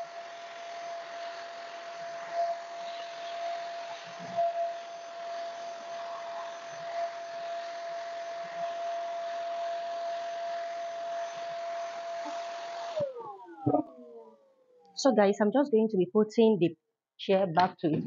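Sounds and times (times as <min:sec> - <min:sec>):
vacuum cleaner running: 0:00.0 - 0:14.7.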